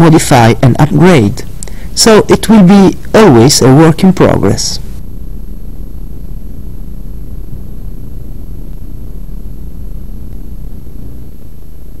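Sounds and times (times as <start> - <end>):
faint high-pitched whine: 0.0 - 12.0
low rumbling noise: 0.0 - 12.0.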